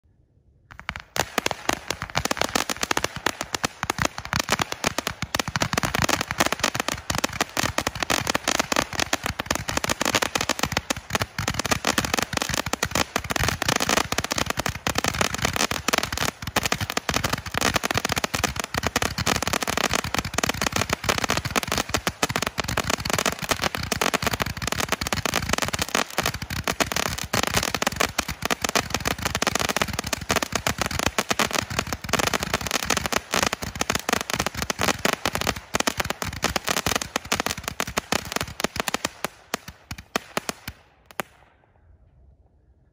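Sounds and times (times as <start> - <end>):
firework volley of sharp pops: 0.7 - 41.6.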